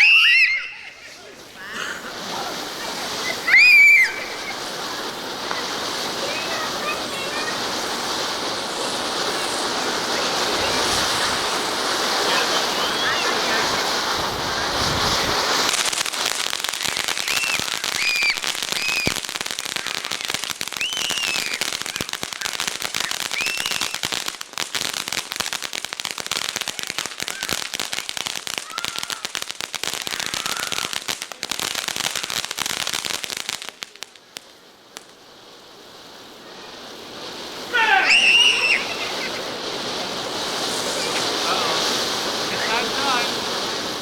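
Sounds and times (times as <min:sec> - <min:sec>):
firework crackling: 0:00.0 - 0:44.0.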